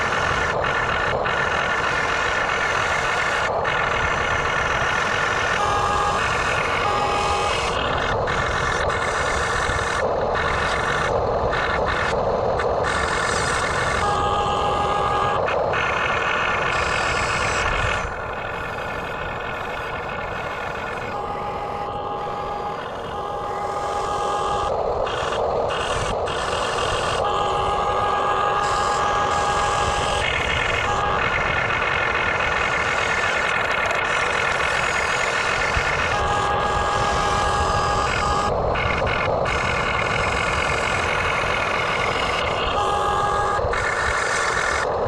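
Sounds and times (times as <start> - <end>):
toy excavator motor whine: 0.0 - 45.0.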